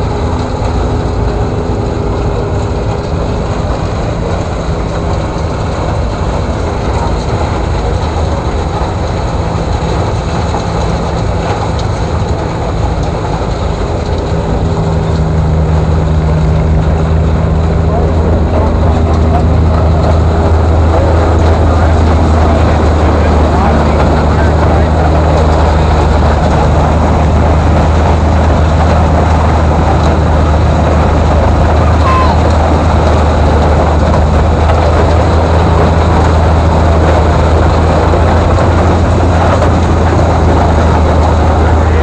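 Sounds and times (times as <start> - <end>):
corn shredder machine humming: 0.0 - 42.0.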